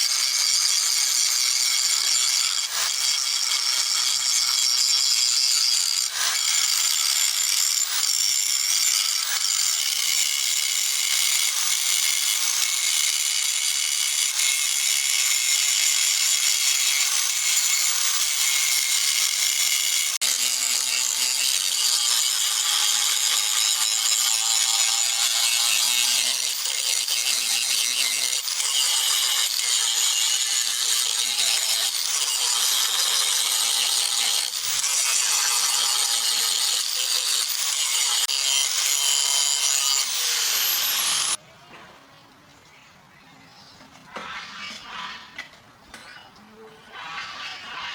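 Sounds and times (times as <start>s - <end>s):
power tool rasping: 0.0s - 41.4s.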